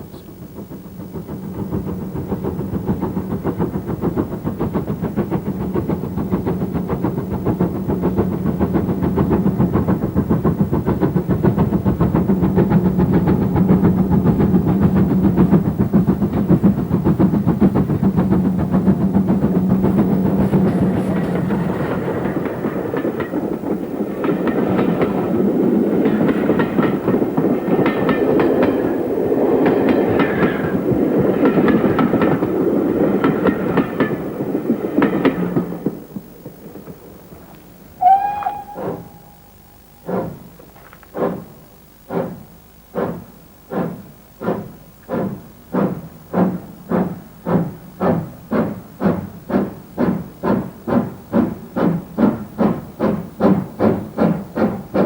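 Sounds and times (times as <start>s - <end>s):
steam locomotive exhaust beats: 0.0s - 55.0s
wheels clattering on rail joints: 0.0s - 55.0s.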